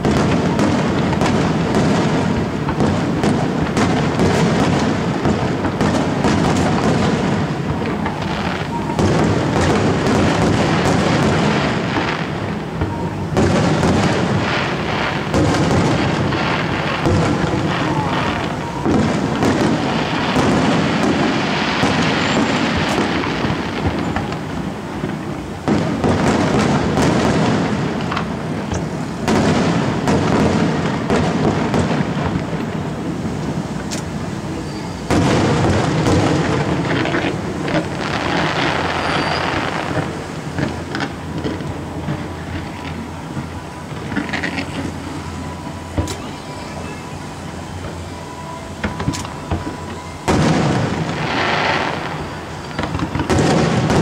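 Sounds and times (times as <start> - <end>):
fireworks booming and crackling: 0.0 - 54.0.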